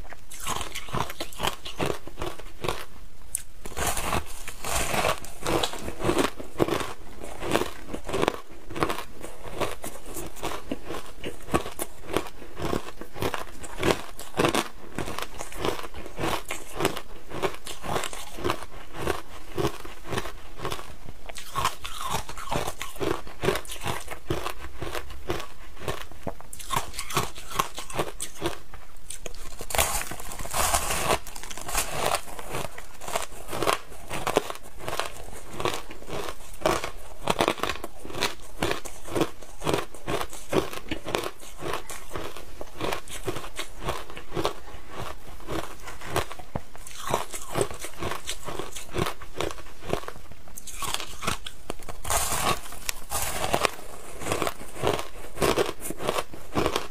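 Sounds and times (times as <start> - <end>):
ice crunching between teeth: 0.0 - 56.9.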